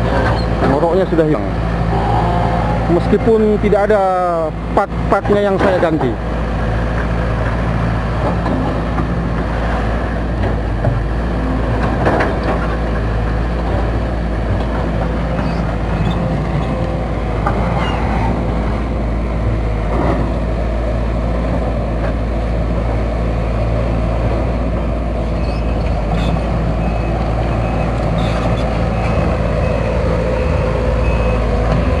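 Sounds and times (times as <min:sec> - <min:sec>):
diesel engine and hydraulic pump running: 0:00.0 - 0:32.0.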